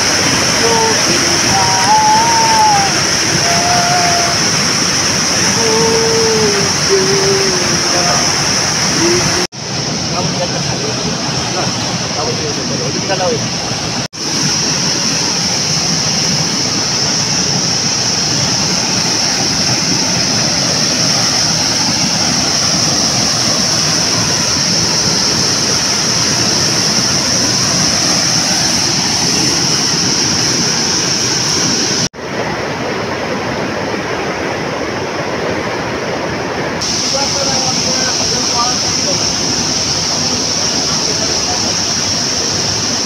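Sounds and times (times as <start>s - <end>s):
stream water rushing: 0.0s - 43.0s.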